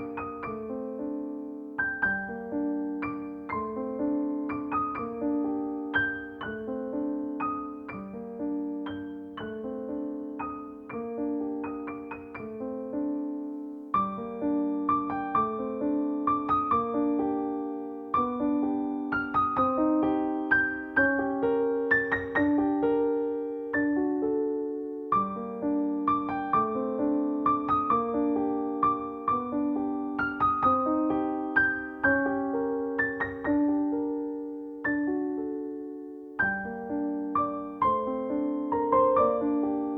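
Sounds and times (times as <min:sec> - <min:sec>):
solo piano music: 0:00.0 - 0:39.9.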